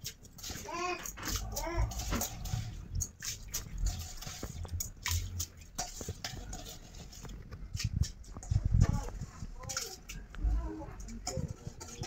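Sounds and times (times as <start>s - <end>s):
water dripping in steel bowl: 0.0s - 12.0s.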